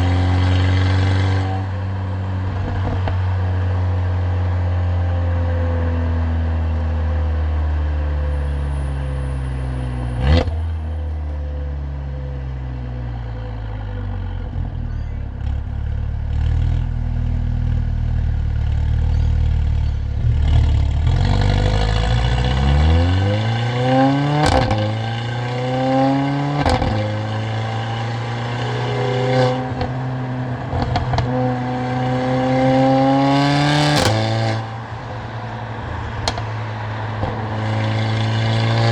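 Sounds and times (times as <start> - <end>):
car engine and exhaust: 0.0 - 38.9.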